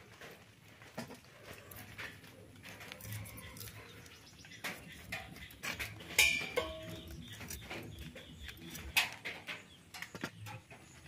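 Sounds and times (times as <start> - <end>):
garlic peeling clicks and rustles: 0.0 - 10.7.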